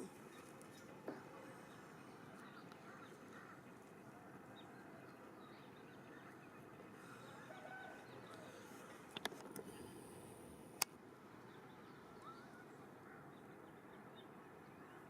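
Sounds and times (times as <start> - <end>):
distant bird calls: 0.0 - 10.0, 11.3 - 15.0.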